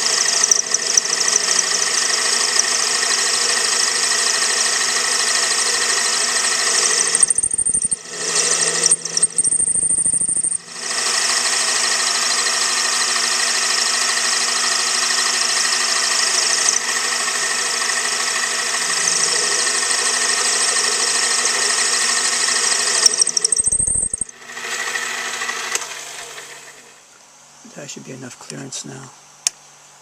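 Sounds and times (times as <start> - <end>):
metal lathe whining: 0.0 - 27.0.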